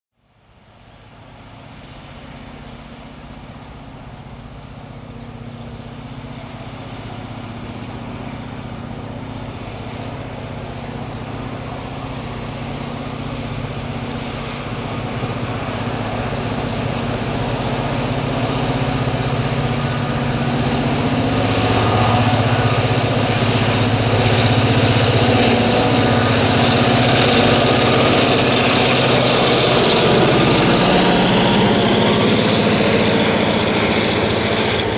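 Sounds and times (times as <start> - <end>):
diesel locomotive engine roaring: 0.2 - 34.9.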